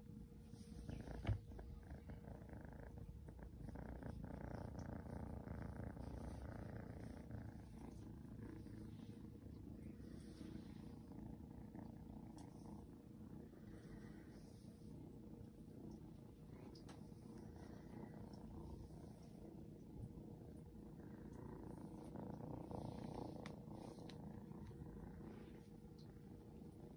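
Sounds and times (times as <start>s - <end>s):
kitten purring: 0.0s - 26.9s.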